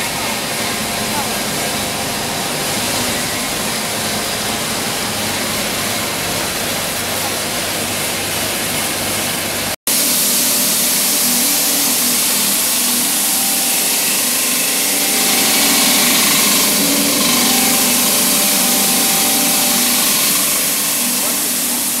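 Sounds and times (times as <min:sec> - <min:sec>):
faint machine hum: 0:00.0 - 0:22.0
pellets rushing through pipes: 0:00.0 - 0:22.0.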